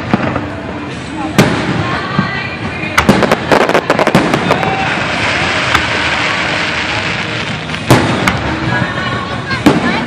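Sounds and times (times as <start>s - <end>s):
fireworks shells hissing: 0.0s - 10.0s.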